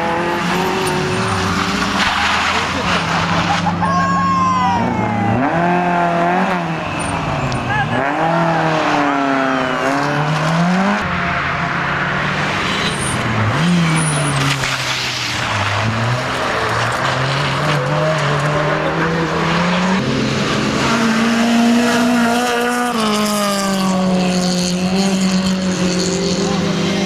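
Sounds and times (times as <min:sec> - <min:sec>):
rally car engine revving: 0:00.0 - 0:03.8, 0:04.8 - 0:27.0.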